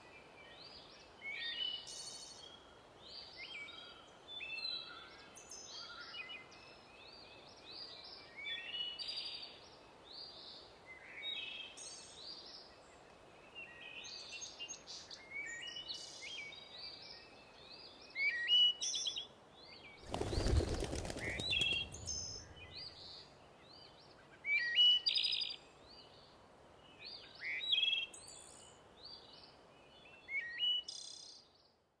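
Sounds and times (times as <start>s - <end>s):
songbirds chirping and trilling: 0.0s - 31.9s.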